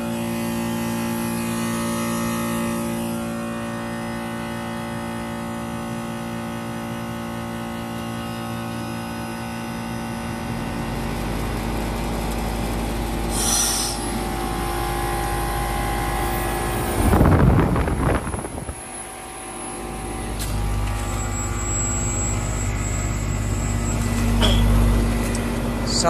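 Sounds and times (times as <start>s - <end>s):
heat pump compressor hum: 0.0s - 26.0s
loud whoosh of refrigerant: 0.0s - 26.0s.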